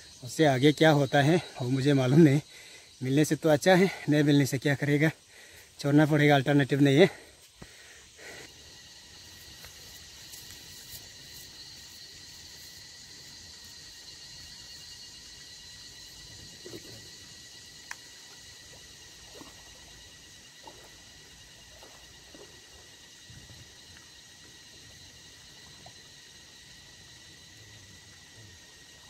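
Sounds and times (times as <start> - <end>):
outdoor hiss: 0.0 - 29.0.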